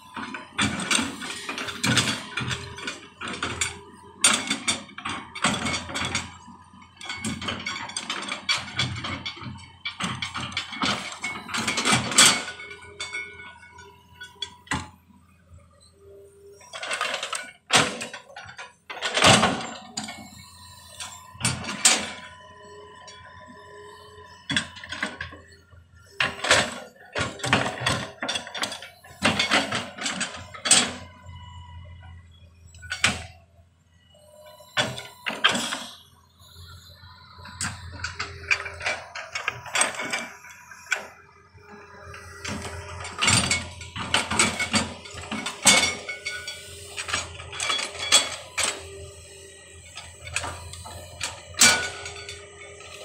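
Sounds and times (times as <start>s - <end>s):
engine humming: 0.0s - 53.0s
excavator bucket metallic clanks: 0.1s - 15.0s, 15.8s - 33.4s, 34.4s - 53.0s.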